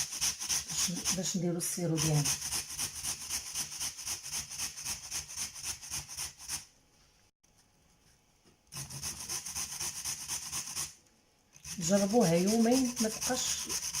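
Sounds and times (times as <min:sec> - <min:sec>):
grating on a hand grater: 0:00.0 - 0:06.6, 0:08.7 - 0:11.0, 0:11.6 - 0:14.0.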